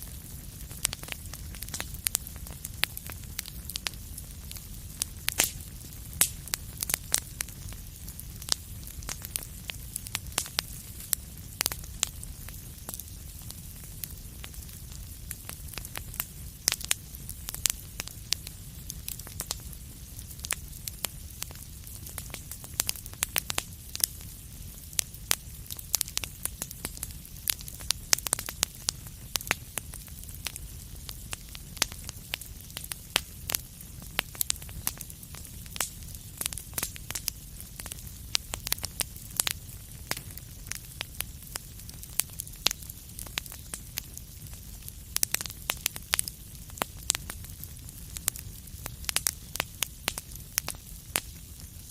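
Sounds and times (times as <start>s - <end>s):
low rumble of flames: 0.0s - 51.9s
wood fire crackling and popping: 0.0s - 51.9s.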